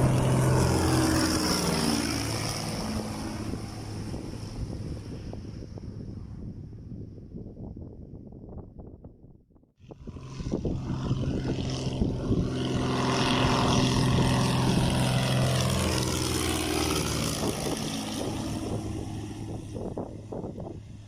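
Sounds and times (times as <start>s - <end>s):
propeller plane flying by: 0.0s - 8.3s, 9.8s - 21.0s.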